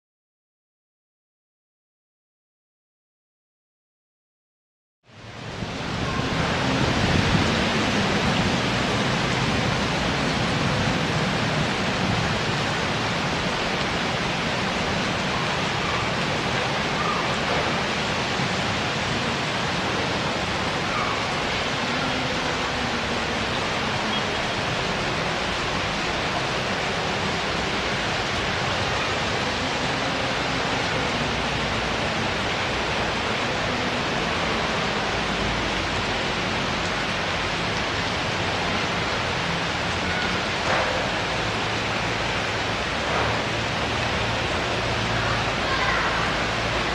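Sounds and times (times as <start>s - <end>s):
heavy rain pouring: 5.0s - 46.9s.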